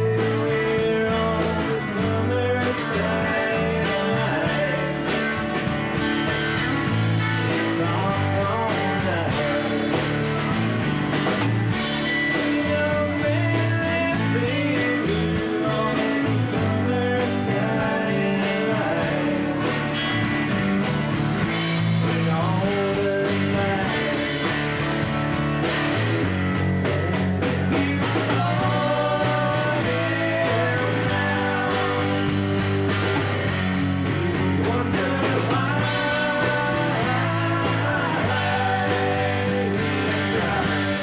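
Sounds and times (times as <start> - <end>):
live band playing: 0.0 - 41.0.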